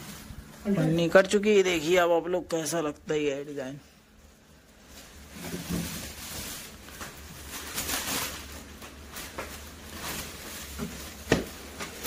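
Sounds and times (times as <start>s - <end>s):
plastic wrapping rustling: 0.0s - 2.3s, 4.1s - 12.0s.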